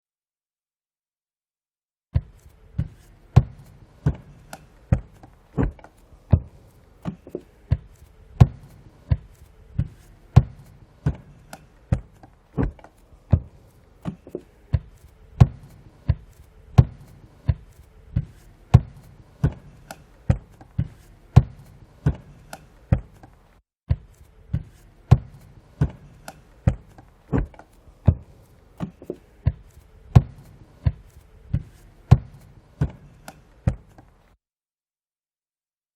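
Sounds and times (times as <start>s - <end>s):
footsteps on wooden floor: 2.2s - 34.3s.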